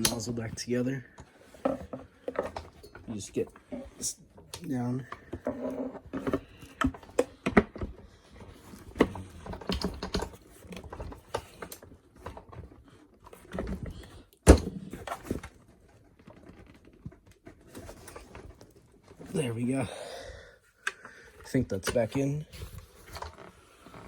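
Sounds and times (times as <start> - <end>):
plastic parts clicking and rattling: 0.0 - 19.4, 20.8 - 24.0.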